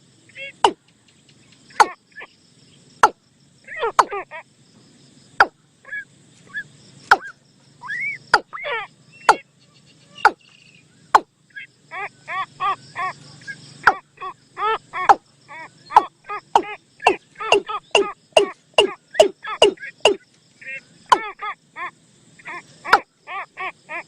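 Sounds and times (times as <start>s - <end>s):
bird calls: 0.2s - 24.0s.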